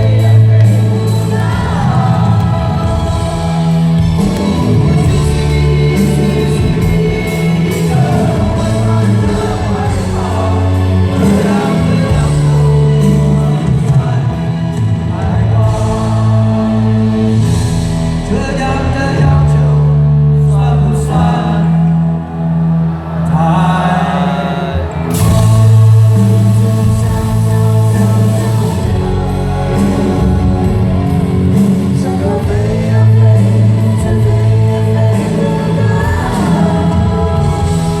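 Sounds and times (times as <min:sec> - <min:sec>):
live band music: 0:00.0 - 0:38.0
person singing: 0:00.0 - 0:38.0.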